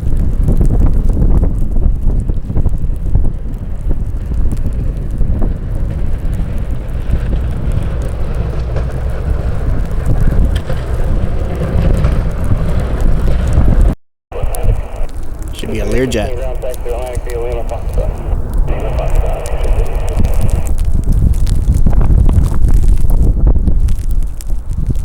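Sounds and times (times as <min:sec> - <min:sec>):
jet aircraft rumble: 0:00.0 - 0:22.0
wind buffeting microphone: 0:00.0 - 0:25.0.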